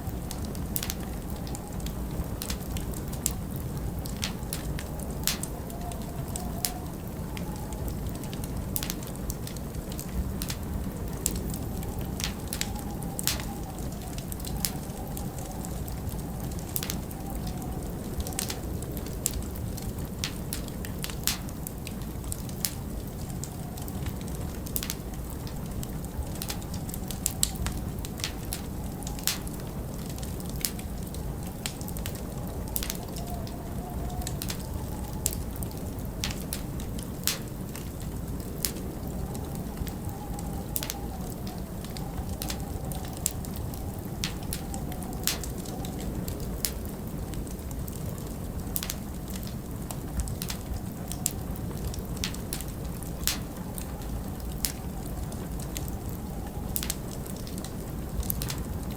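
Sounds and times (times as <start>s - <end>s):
wind rumbling: 0.0s - 58.9s
wind whistling: 0.0s - 58.9s
wood fire crackling: 0.0s - 58.9s.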